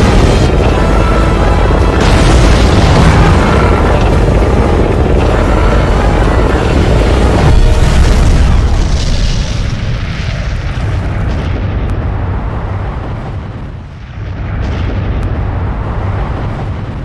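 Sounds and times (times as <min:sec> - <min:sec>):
explosion with low rumble: 0:00.0 - 0:17.0.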